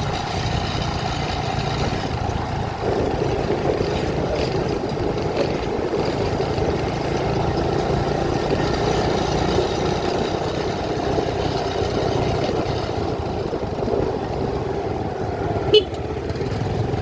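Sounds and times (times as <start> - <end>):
road noise: 0.0 - 17.0
vehicle engine: 0.0 - 17.0.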